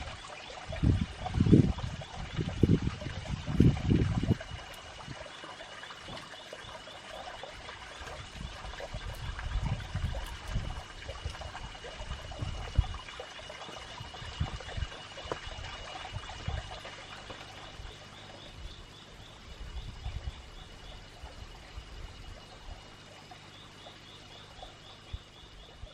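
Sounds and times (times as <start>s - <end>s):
water trickling: 0.0s - 25.9s.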